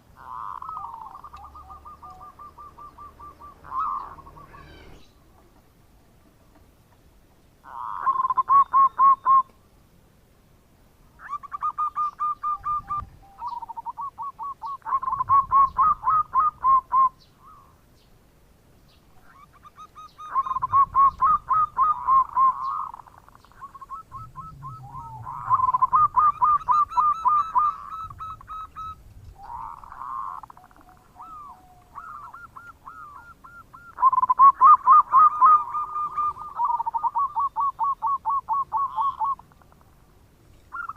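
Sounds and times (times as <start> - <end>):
dove cooing: 0.0 - 5.0, 7.6 - 9.5, 11.2 - 17.7, 19.2 - 39.9.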